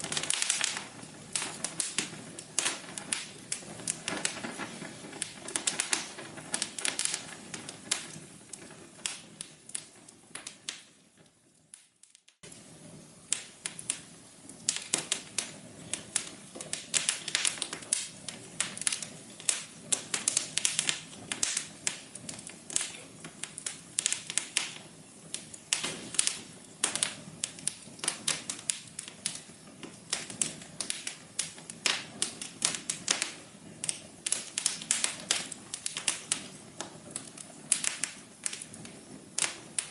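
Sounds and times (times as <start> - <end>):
fire soft hiss: 0.0 - 39.9
wood fire crackling and popping: 0.0 - 39.9.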